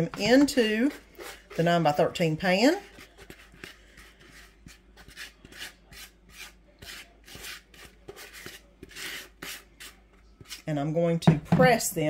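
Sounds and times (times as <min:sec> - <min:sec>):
spatula scraping plastic bowl: 0:00.0 - 0:10.9.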